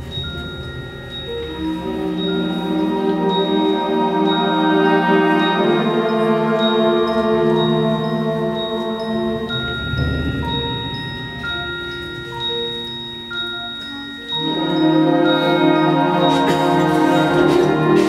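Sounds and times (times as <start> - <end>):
concert band soft chords: 0.0 - 18.0
high bell-like notes: 0.0 - 18.0
mallet percussion and chimes: 0.0 - 18.0.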